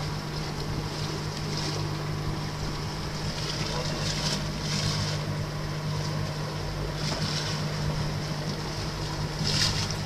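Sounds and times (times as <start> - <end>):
boat engine humming: 0.0 - 10.0
water noise: 0.0 - 10.0.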